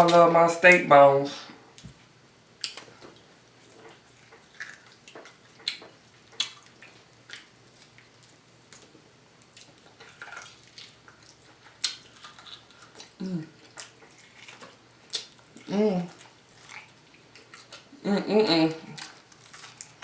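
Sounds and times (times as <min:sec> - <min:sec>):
person chewing meat off bone: 0:02.6 - 0:18.0, 0:18.7 - 0:20.0.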